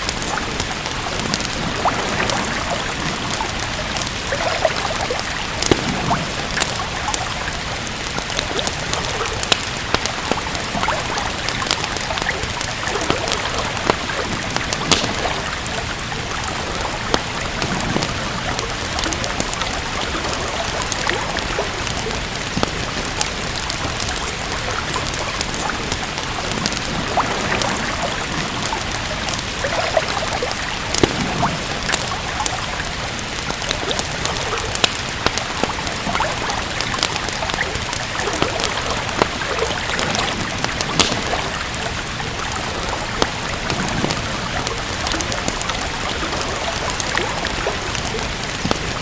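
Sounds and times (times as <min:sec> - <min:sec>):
steady rain: 0:00.0 - 0:49.0
wood fire crackling: 0:00.0 - 0:49.0.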